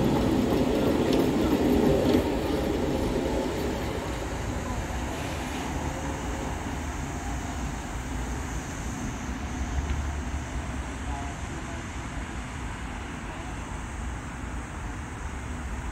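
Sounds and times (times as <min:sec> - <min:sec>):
city traffic rumble: 0:00.0 - 0:15.9
tram rolling on track: 0:00.0 - 0:15.9.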